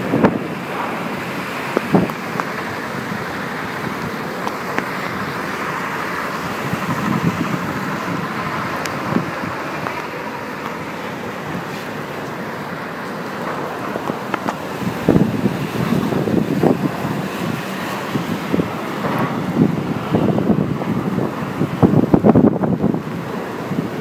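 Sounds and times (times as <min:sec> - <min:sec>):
heavy rain: 0:00.0 - 0:24.0
strong wind: 0:00.0 - 0:24.0.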